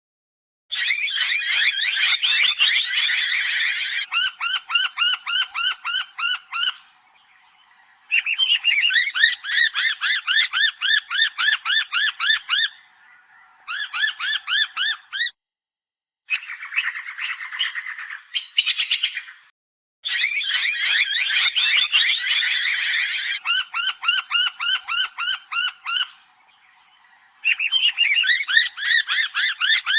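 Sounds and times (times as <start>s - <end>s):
birds calling harsh repeated notes: 0.7s - 15.4s, 16.3s - 29.9s.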